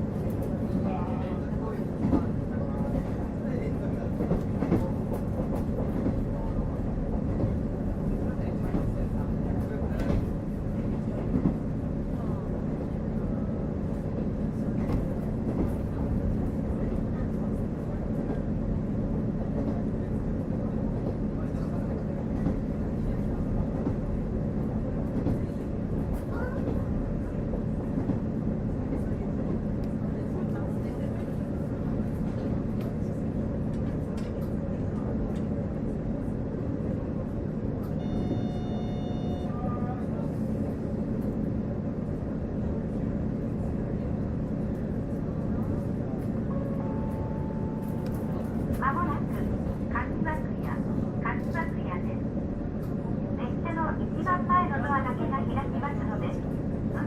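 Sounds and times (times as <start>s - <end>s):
train wheels on rails: 0.0s - 53.3s.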